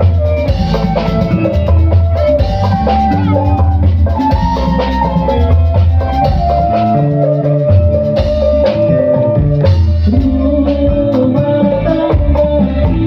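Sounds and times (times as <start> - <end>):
bass line: 0.0 - 13.0
drum kit beat: 0.0 - 13.0
keyboard melody: 0.0 - 13.0.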